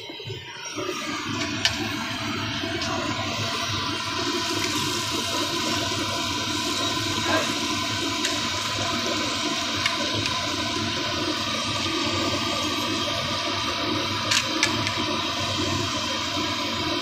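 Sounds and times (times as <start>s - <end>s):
hot oil sizzling and bubbling: 0.0s - 17.0s.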